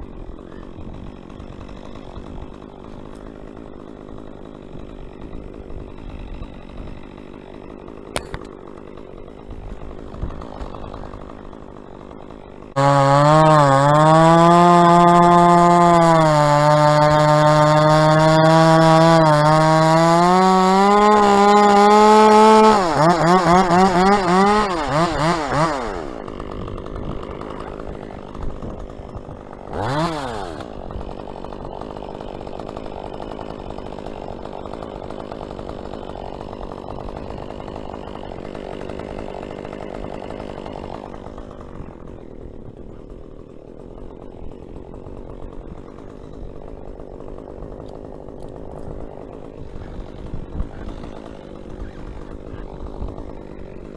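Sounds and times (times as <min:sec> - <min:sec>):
chainsaw revving and idling: 0:00.0 - 0:53.9.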